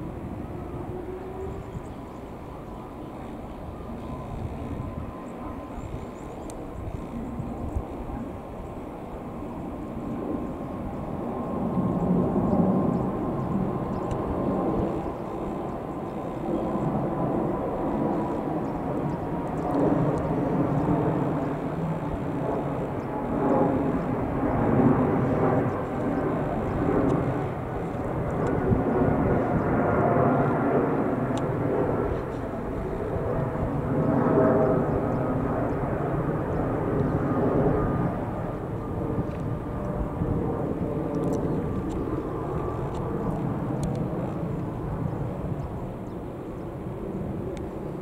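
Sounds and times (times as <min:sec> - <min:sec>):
jet engines overhead: 0:00.0 - 0:48.0.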